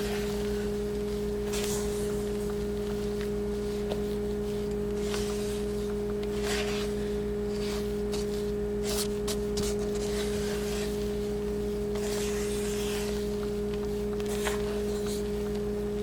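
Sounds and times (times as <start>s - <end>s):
spatula swishing in mixing bowl: 0.0s - 15.5s
steady two-note background tone: 0.0s - 16.0s.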